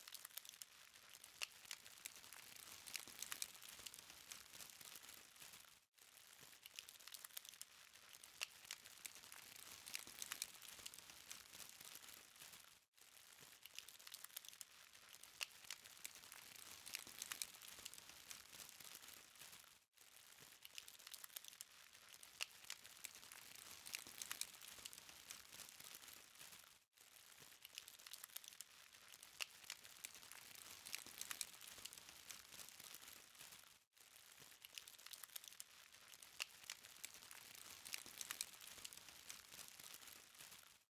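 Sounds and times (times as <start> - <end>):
charcoal fire crackling: 0.0 - 40.9.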